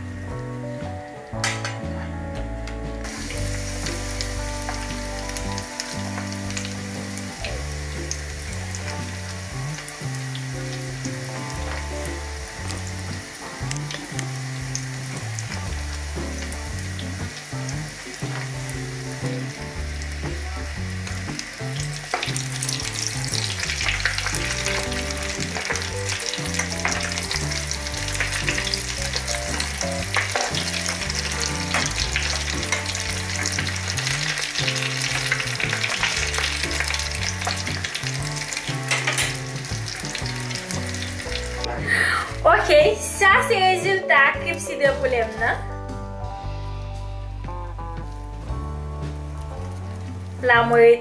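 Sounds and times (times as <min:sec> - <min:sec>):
chicken deep-frying in oil: 0:00.0 - 0:45.7, 0:47.7 - 0:51.0.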